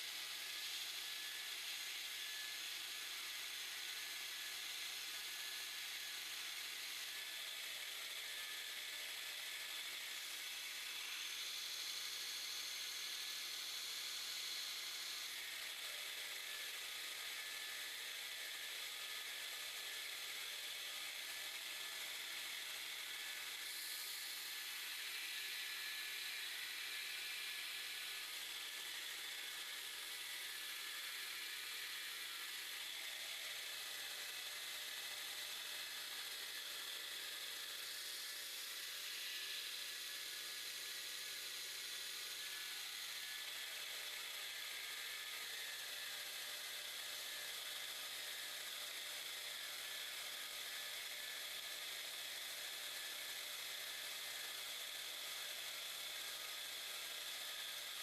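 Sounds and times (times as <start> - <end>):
bench grinder grinding metal: 0.0 - 47.9.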